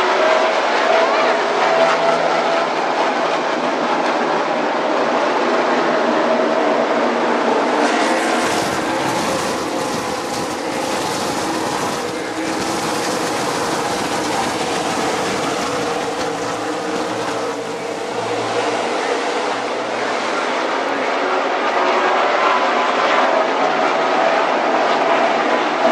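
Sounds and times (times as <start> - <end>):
race cars engines droning: 0.0 - 25.9.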